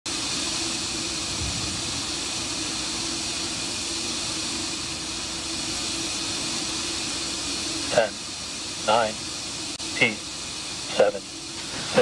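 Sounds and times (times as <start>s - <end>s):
rocket venting rushing hiss: 0.1s - 12.0s.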